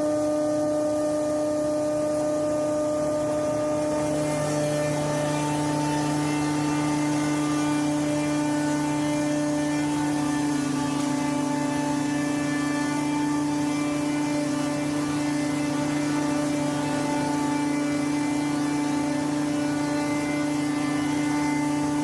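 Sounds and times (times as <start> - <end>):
crusher shredding corn stalks: 0.0 - 22.0.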